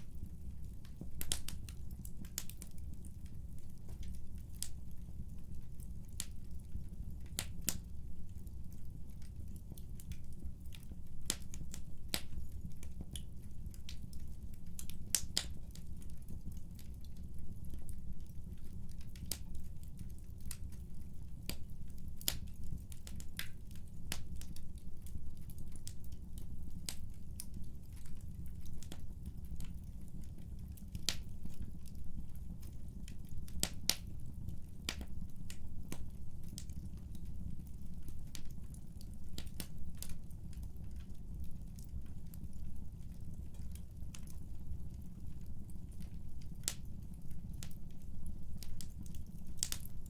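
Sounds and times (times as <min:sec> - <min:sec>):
fire crackling and popping: 0:00.0 - 0:50.0
wood fire rumble: 0:00.0 - 0:50.0.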